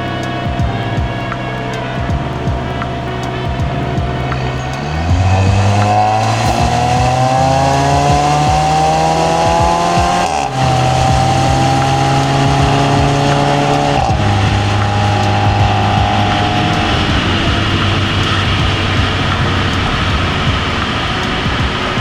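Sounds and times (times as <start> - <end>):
car engine accelerating: 0.0 - 22.0
tyre and road noise: 0.0 - 22.0.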